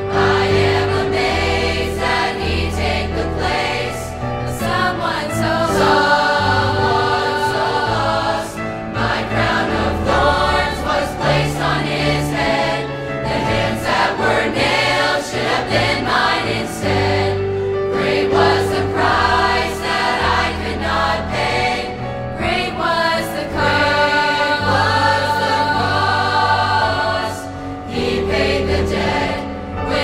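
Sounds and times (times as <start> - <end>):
youth choir singing: 0.0 - 30.0.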